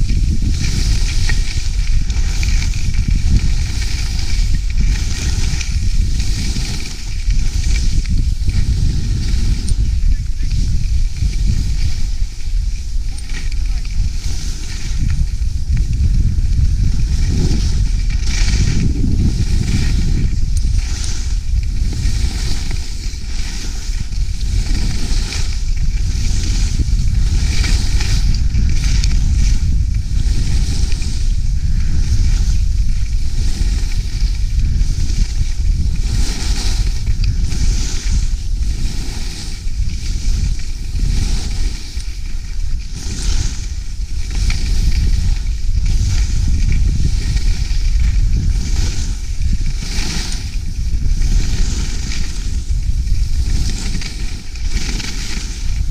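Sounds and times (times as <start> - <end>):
skis scraping over snow: 0.0 - 55.9
wind rumble on microphone: 0.0 - 55.9.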